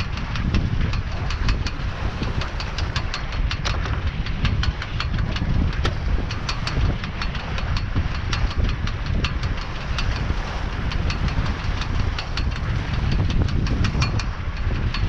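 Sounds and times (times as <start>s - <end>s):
halyard slapping metal mast: 0.0s - 15.0s
water rushing along hull: 0.0s - 15.0s
wind rumbling on microphone: 0.0s - 15.0s.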